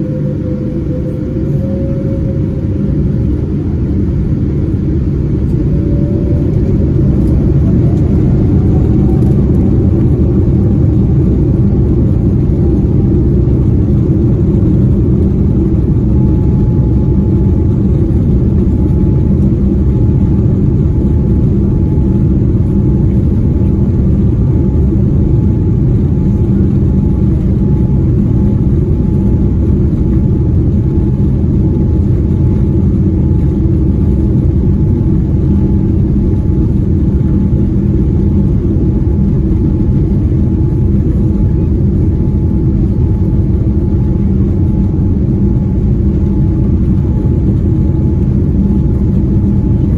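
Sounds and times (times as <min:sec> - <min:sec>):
aircraft cabin engine rumble: 0:00.0 - 0:49.9
faint steady whine: 0:00.0 - 0:49.9.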